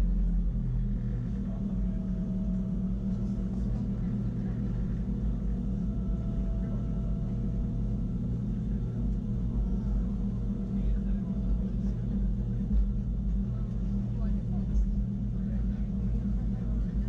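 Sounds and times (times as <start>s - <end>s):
constant hum: 0.0s - 17.0s
faint high whine: 0.0s - 17.0s.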